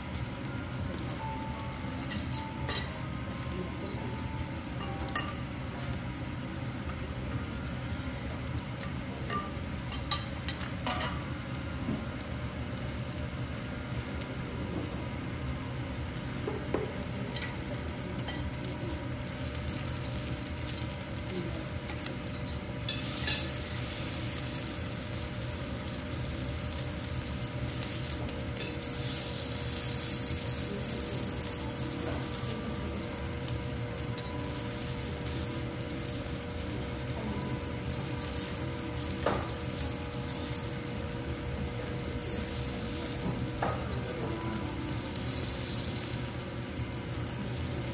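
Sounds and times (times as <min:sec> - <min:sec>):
food sizzling on a griddle: 0:00.0 - 0:47.9.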